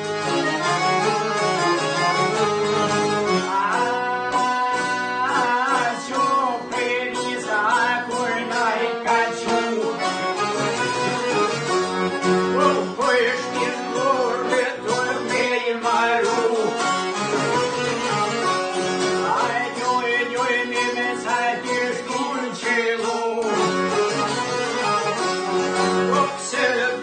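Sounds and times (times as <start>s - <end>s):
piano accordion: 0.0s - 27.0s
plucked lutes: 0.0s - 27.0s.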